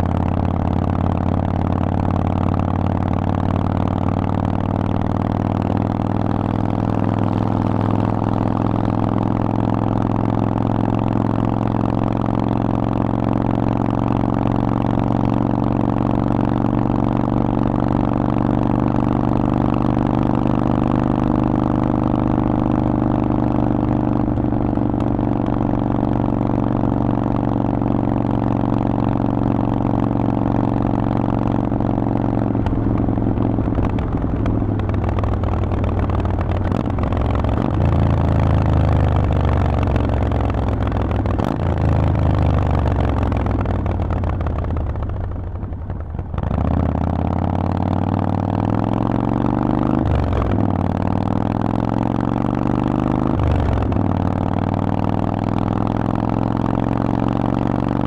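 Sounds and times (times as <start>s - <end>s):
motorcycle engine running loud: 0.0s - 58.0s.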